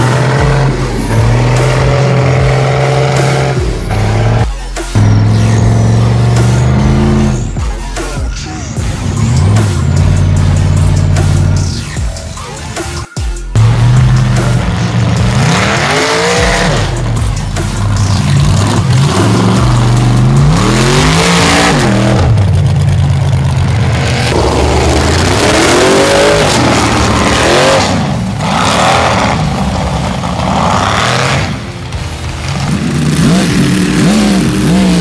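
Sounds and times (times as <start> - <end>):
buggy engine revving: 0.0 - 12.0, 13.5 - 35.0.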